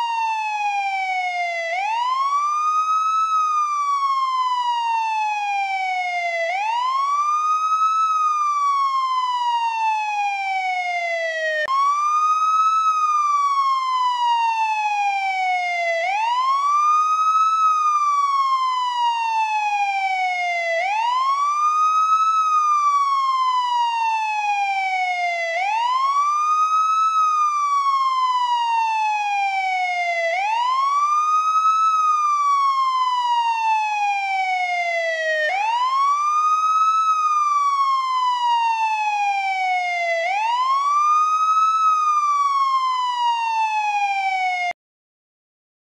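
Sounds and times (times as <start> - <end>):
police siren wailing: 0.0 - 44.8.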